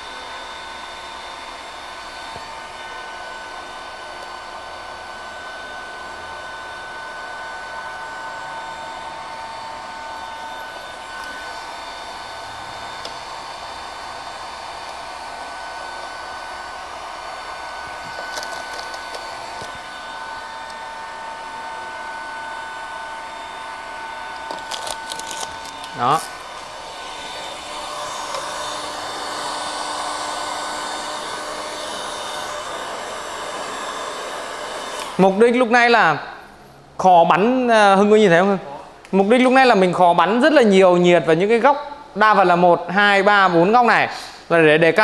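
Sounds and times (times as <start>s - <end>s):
heat gun fan whine and hiss: 0.0s - 45.0s.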